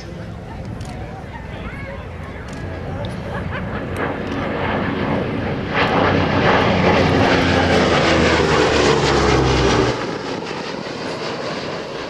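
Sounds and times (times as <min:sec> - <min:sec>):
propeller aircraft engines passing: 0:00.0 - 0:12.0.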